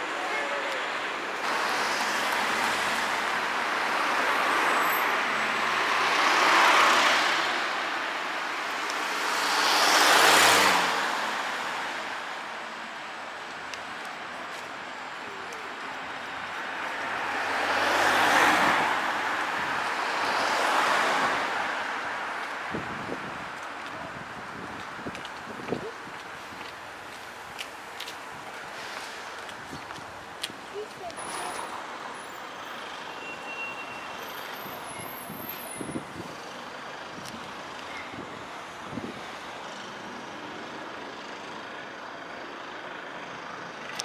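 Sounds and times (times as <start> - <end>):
cars passing by: 0.0 - 44.0
city street traffic: 0.0 - 44.0.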